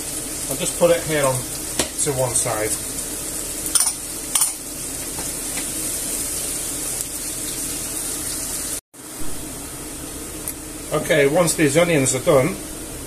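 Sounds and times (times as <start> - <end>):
onion frying in oil: 0.0 - 13.0.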